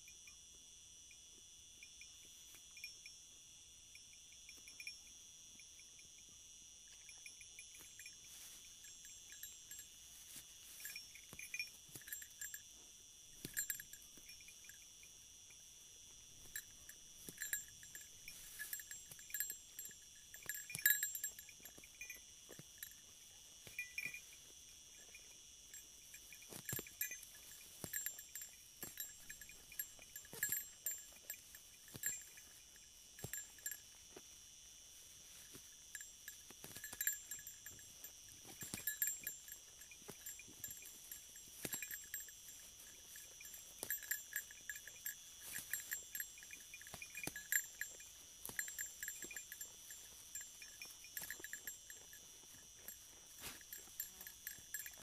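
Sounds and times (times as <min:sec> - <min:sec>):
crickets trilling: 0:00.0 - 0:55.0
sheep grazing in dry grass: 0:01.8 - 0:03.2, 0:04.0 - 0:06.1, 0:06.8 - 0:55.0.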